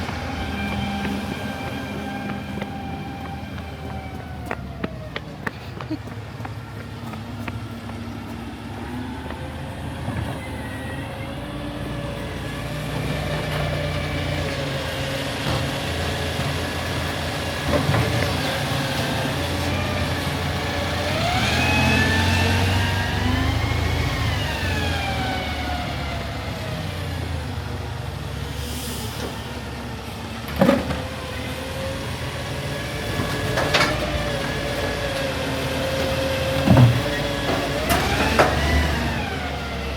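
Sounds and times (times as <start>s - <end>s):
garbage truck diesel engine running: 0.0s - 39.9s.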